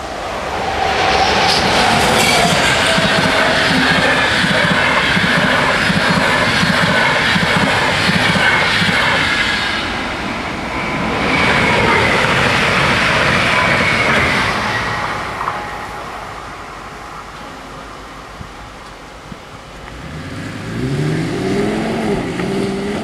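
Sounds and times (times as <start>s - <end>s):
train wheels clacking: 0.0s - 19.9s
electric train rolling past: 0.0s - 23.0s.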